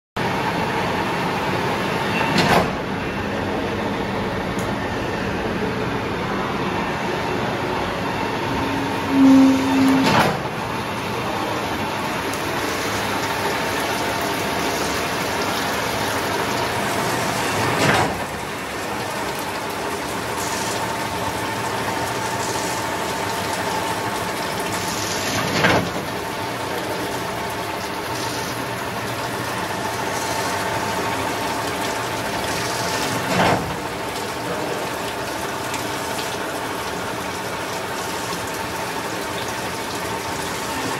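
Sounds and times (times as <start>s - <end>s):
coolant splashing: 0.2s - 40.9s.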